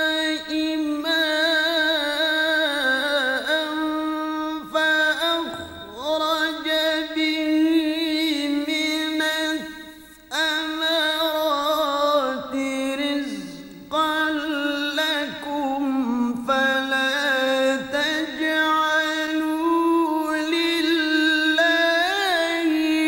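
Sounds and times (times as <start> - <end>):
man chanting recitation: 0.0 - 23.0.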